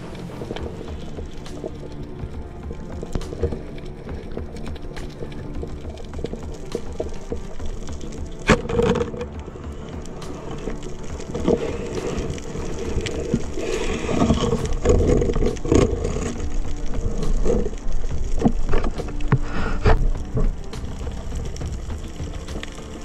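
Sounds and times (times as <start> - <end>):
muffled underwater knocks and clicks: 0.3 - 23.0.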